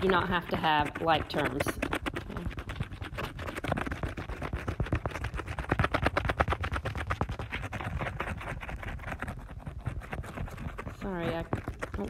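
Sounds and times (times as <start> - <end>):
scrubbing on glass screen: 0.0 - 12.0.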